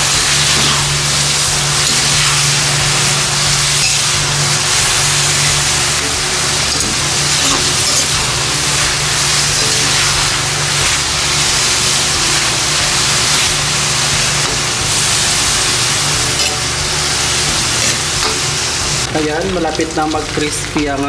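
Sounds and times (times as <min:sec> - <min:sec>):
low steady hum: 0:00.0 - 0:19.9
deep-frying sizzle in a wok: 0:00.0 - 0:21.0.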